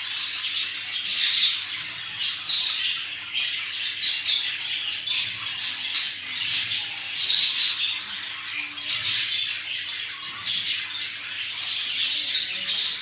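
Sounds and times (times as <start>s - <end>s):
budgerigars chattering and warbling: 0.0s - 13.0s.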